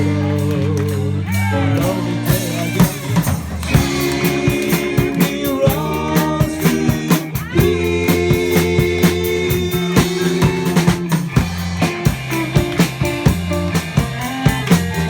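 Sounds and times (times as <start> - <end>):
bass guitar: 0.0 - 15.0
drum kit beat: 0.0 - 15.0
electric guitar chords: 0.0 - 15.0.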